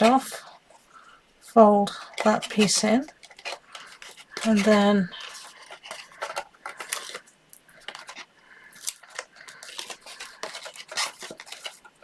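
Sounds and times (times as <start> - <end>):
paper rustling and crinkling: 1.9 - 12.0.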